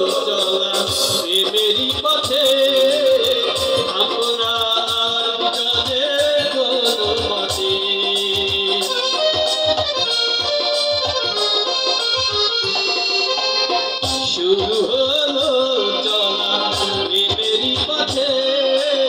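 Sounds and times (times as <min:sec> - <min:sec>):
drum beat: 0:00.0 - 0:19.0
keyboard melody: 0:00.0 - 0:19.0.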